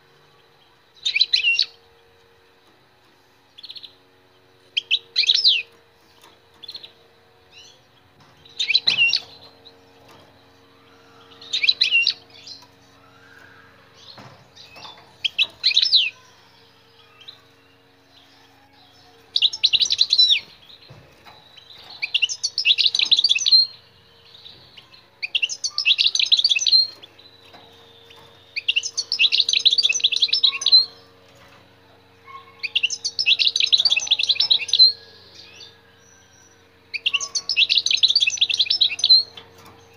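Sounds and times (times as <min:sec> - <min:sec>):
faint low hum: 0:00.0 - 0:39.9
finch twittering song: 0:00.6 - 0:01.8, 0:03.5 - 0:31.5, 0:32.1 - 0:39.9.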